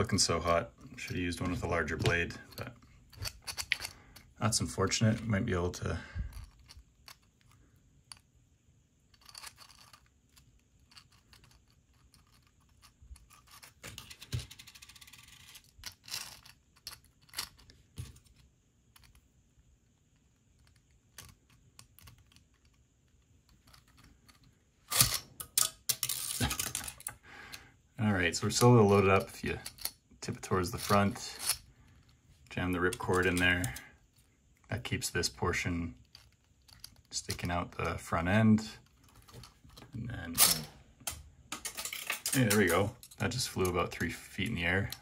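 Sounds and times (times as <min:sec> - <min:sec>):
plastic parts clicking and knocking: 0:00.1 - 0:05.4, 0:06.1 - 0:08.3, 0:09.0 - 0:19.3, 0:20.1 - 0:27.6, 0:28.5 - 0:33.9, 0:35.6 - 0:38.2, 0:38.8 - 0:45.0.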